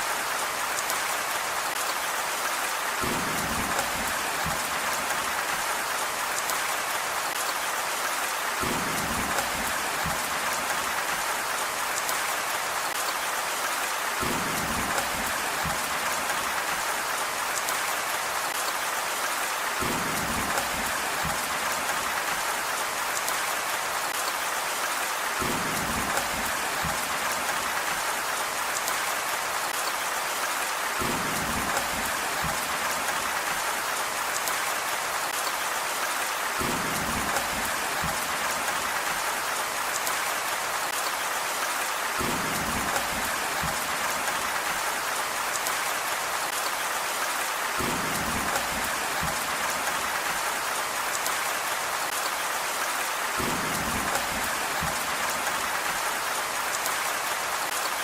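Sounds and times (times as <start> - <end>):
rain hiss: 0.0 - 58.0.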